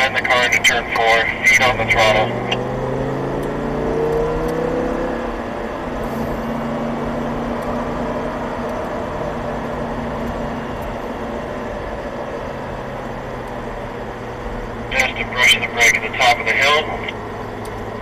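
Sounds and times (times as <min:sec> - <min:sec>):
car engine drone from inside cabin: 0:00.0 - 0:18.0
road and tyre noise: 0:00.0 - 0:18.0.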